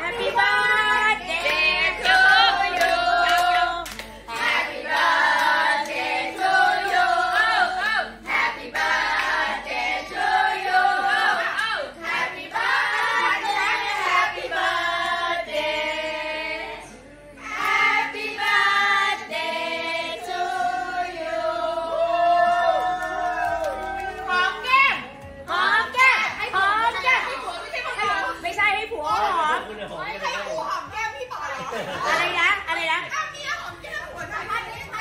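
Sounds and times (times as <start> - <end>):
women singing together: 0.0 - 28.5.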